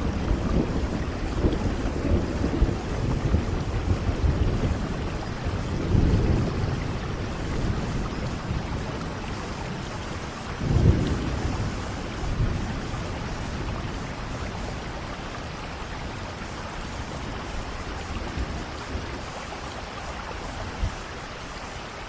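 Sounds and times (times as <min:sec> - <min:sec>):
thunder rumbling: 0:00.0 - 0:19.7
steady rain: 0:00.0 - 0:22.0.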